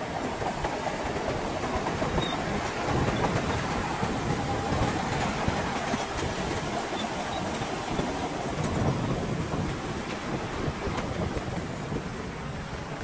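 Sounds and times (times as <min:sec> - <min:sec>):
steel tracks clattering: 0:00.0 - 0:13.0.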